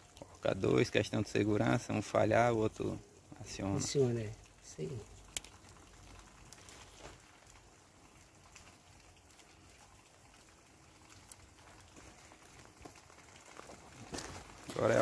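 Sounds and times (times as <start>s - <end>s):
soft ticks and rustles: 0.0s - 15.0s.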